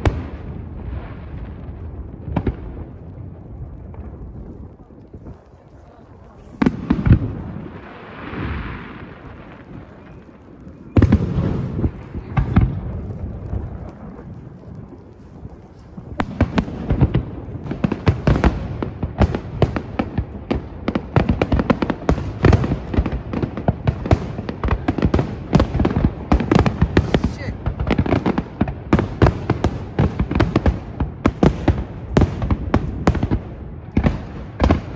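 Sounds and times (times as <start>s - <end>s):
fireworks booming and crackling: 0.0s - 34.9s.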